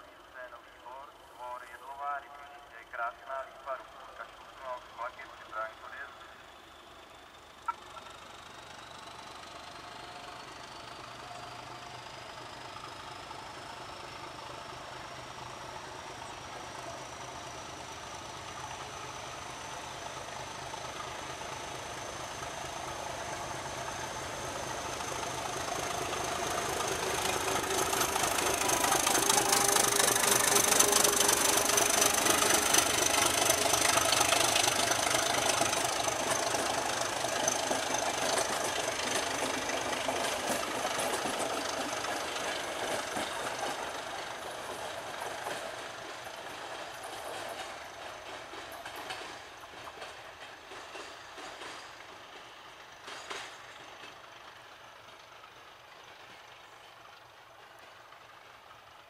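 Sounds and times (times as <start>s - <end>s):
diesel locomotive engine under load: 0.0s - 59.0s
train wheels and carriages rattling: 7.2s - 59.0s.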